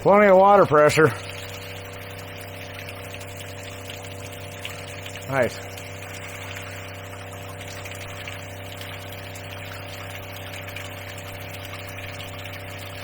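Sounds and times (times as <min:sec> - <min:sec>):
water pump humming: 0:00.0 - 0:13.0.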